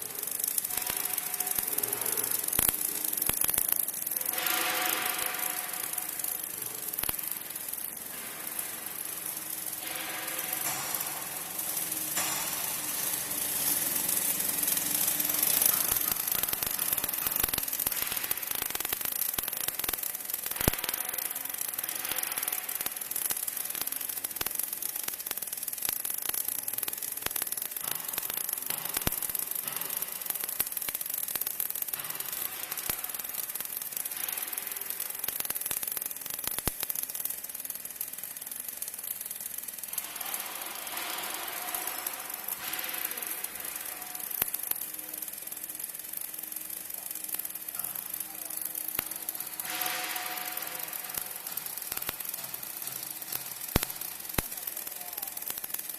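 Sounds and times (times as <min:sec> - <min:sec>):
sharp welding pops: 0:00.0 - 0:55.9
welding arc crackling: 0:00.0 - 0:55.9.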